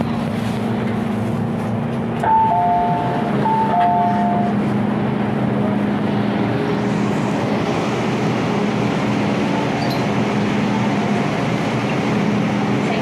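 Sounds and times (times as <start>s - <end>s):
metro car running rumble: 0.0s - 13.0s.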